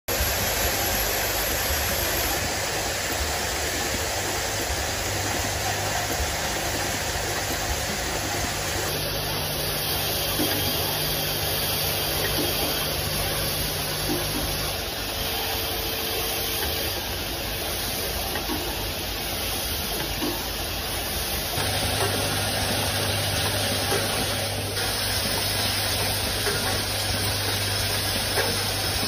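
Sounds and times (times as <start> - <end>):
machinery humming and hissing: 0.1 - 29.0.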